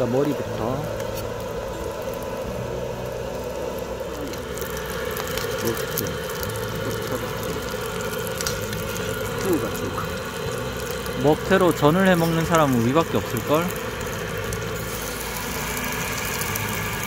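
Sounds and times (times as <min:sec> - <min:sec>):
food sizzling in oil: 0:00.0 - 0:17.0
low steady hum: 0:00.0 - 0:17.0.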